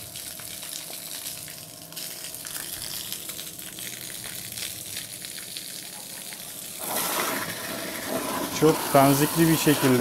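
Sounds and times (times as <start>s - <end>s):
water jet splashing on paving: 0.0s - 10.0s.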